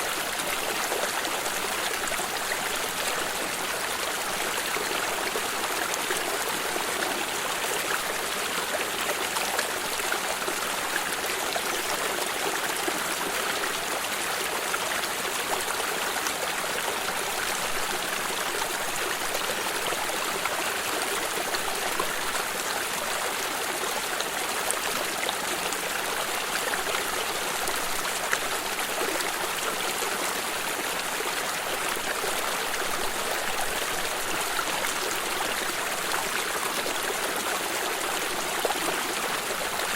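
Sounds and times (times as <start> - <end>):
stream rushing and trickling: 0.0 - 39.9.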